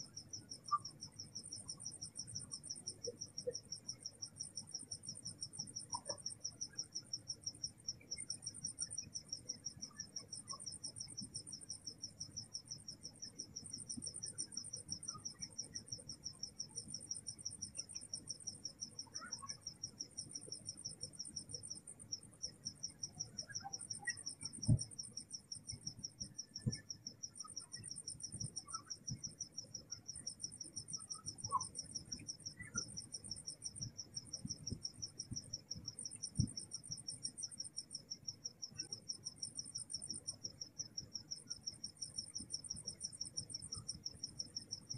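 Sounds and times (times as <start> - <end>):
crickets pulsing chirp: 0.0 - 44.9.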